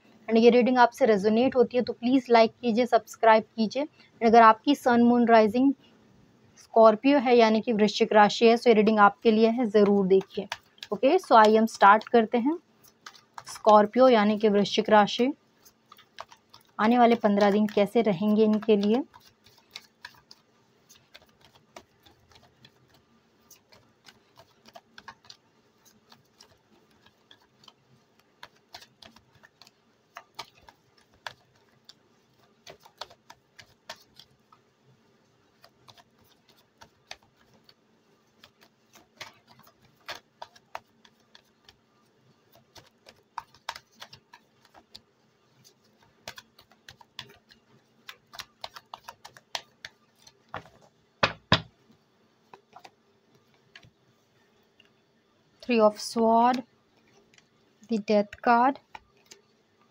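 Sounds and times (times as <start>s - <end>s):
cards being shuffled: 8.8s - 54.2s, 55.6s - 59.9s.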